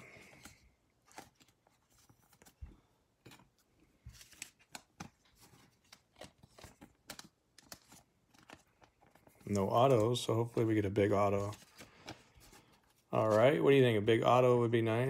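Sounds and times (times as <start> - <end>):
cards rustling into plastic sleeves: 0.0 - 15.0.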